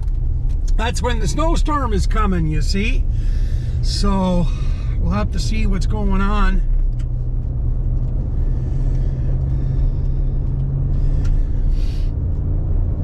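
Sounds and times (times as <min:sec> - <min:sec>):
truck road and engine rumble: 0:00.0 - 0:13.0.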